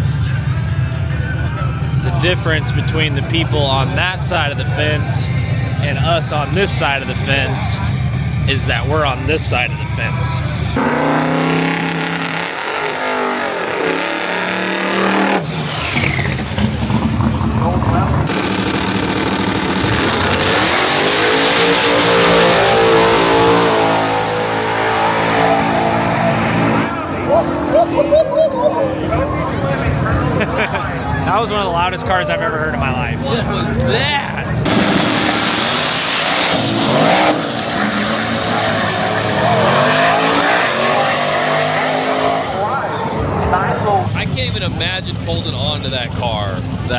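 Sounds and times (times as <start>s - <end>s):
race car engine at full throttle: 0.0s - 46.9s.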